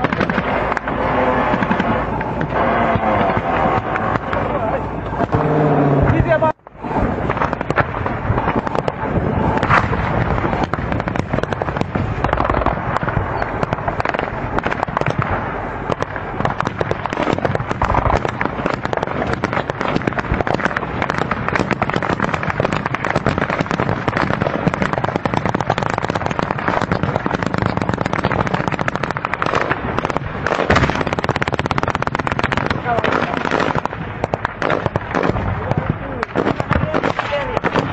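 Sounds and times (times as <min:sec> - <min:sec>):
rapid gunfire: 0:00.0 - 0:05.6, 0:07.3 - 0:37.9.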